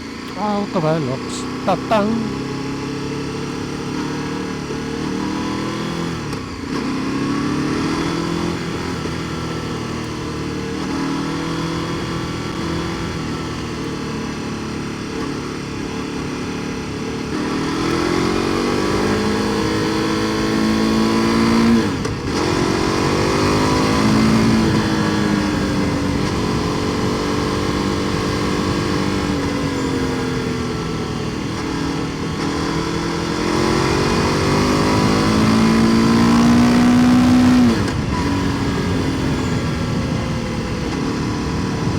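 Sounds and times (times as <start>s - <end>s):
motorcycle engine accelerating: 1.4s - 41.9s.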